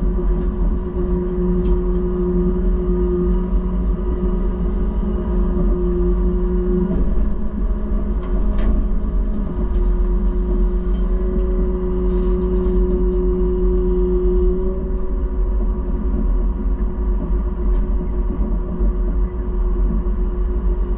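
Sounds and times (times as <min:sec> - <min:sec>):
constant machine whine: 0:00.0 - 0:20.9
heavy farm machinery engine rumble: 0:00.0 - 0:20.9.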